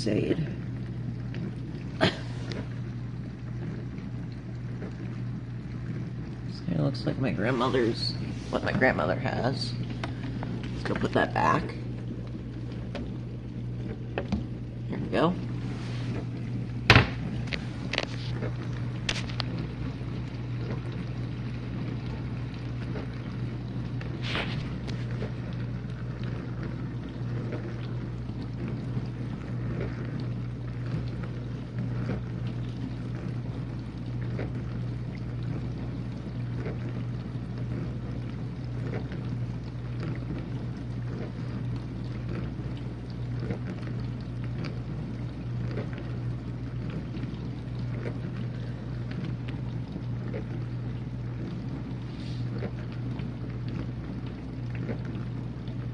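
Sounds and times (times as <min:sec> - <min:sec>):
dishwasher pump motor hum: 0:00.0 - 0:55.9
water spraying and splashing: 0:01.1 - 0:55.9.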